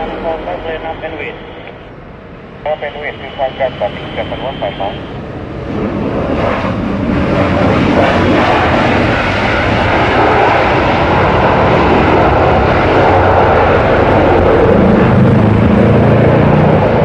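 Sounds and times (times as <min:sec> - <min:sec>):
jet engines running loud: 0:00.0 - 0:17.0.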